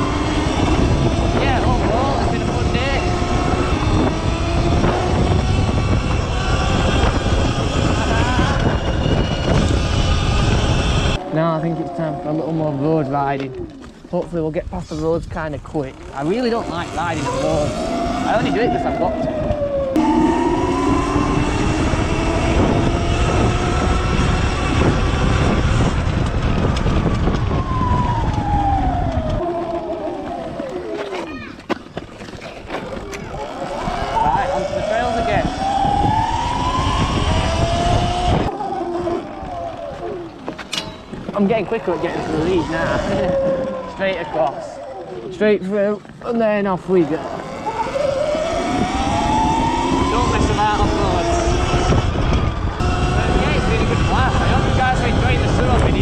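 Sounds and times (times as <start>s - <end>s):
electric motor whine: 0.0s - 13.8s, 16.0s - 31.1s, 33.4s - 40.8s, 41.7s - 45.3s, 46.9s - 56.0s
wind rumble on microphone: 0.0s - 56.0s.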